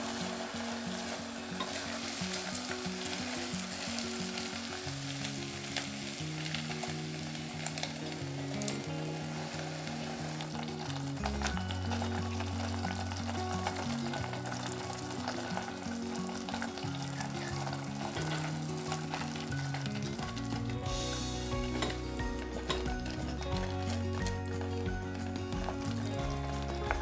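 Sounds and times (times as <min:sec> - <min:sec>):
food sizzling in hot oil: 0:00.0 - 0:27.0
soft background music: 0:00.0 - 0:27.0.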